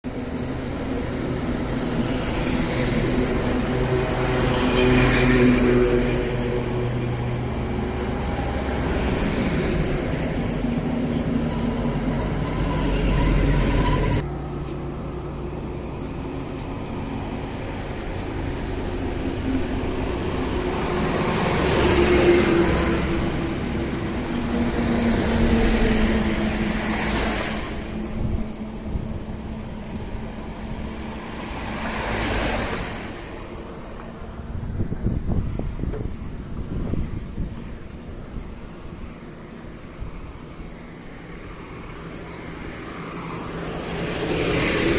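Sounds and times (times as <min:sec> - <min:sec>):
trucks and cars passing: 0:00.0 - 0:44.9.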